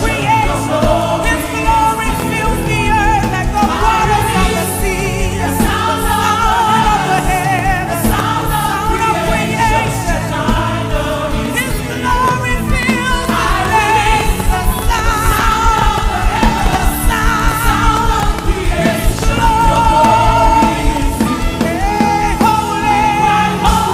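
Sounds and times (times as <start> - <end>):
gospel choir singing: 0.0 - 23.9
sustained instrumental chords: 0.0 - 23.9.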